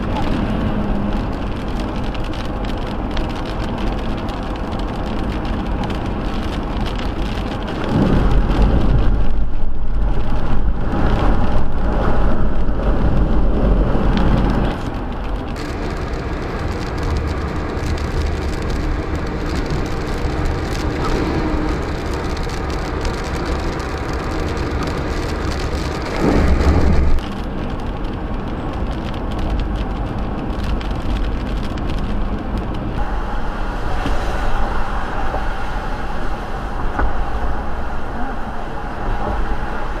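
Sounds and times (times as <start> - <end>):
steady rain: 0.0 - 40.0
thunder rumble: 0.0 - 40.0
wind: 0.0 - 40.0.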